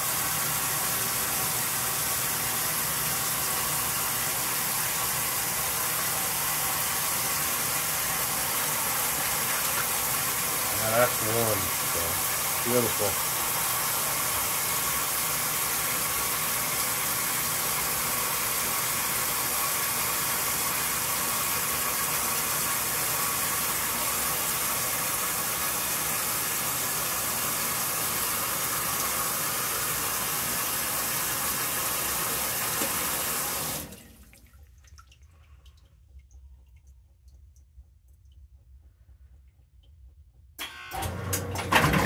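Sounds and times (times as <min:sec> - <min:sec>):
water pouring into washer tub: 0:00.0 - 0:36.9, 0:41.0 - 0:42.0.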